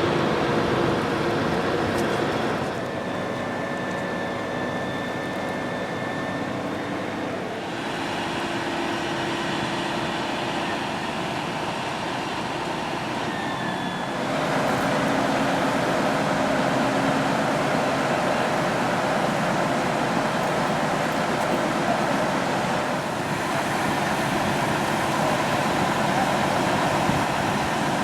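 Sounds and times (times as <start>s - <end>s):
fire truck engines running: 0.0s - 28.0s.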